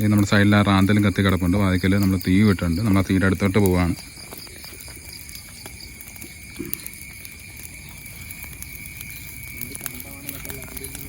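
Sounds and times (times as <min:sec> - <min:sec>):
crickets trilling: 0:00.0 - 0:11.0
soft footsteps on ground: 0:02.0 - 0:11.0.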